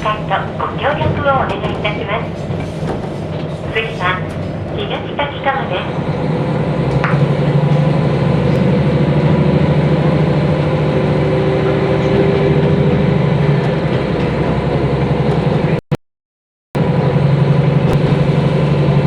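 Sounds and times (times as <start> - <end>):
diesel railcar engine running: 0.0 - 15.8, 16.8 - 19.0.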